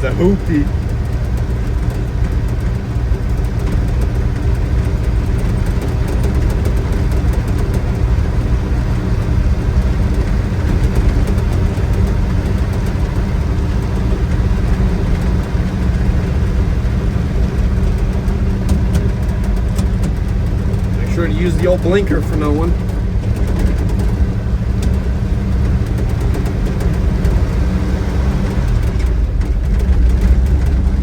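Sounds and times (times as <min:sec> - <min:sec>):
road and tyre noise: 0:00.0 - 0:31.0
truck engine running: 0:00.0 - 0:31.0.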